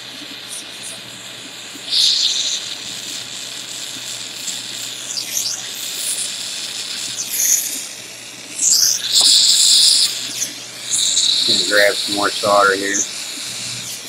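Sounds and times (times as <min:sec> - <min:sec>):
soldering torch hissing: 0:00.0 - 0:14.0.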